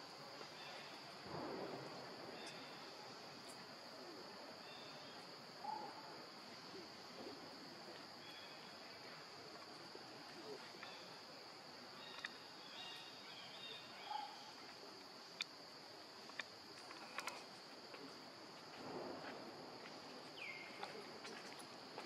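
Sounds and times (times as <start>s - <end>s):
faint insect chirps: 0.0s - 22.0s.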